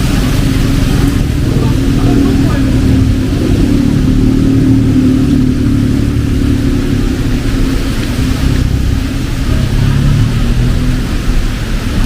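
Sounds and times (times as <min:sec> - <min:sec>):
heavy rain hiss: 0:00.0 - 0:12.0
vehicle engine humming: 0:00.0 - 0:12.0.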